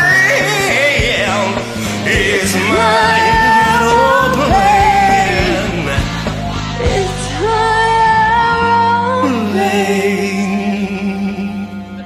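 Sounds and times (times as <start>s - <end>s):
backing track music: 0.0s - 12.0s
duet singing with vibrato: 0.0s - 12.0s.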